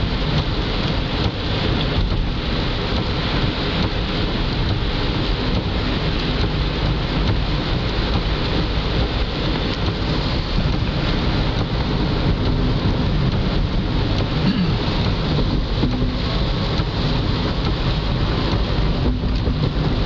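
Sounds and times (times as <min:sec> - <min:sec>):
heavy rain on car windshield: 0:00.0 - 0:20.0
tyres rumbling on wet road: 0:00.0 - 0:20.0.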